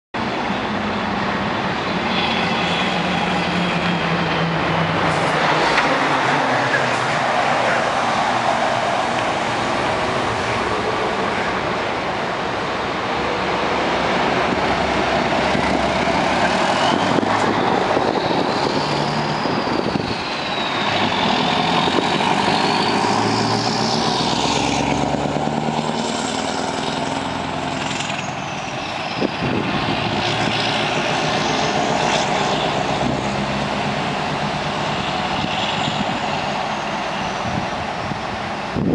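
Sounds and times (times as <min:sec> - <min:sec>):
truck diesel engine driving past: 0:00.6 - 0:38.7.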